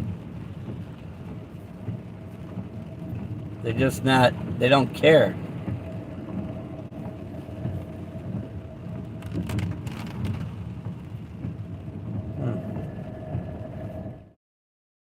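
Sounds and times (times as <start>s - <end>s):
car road and engine rumble: 0.0s - 14.4s.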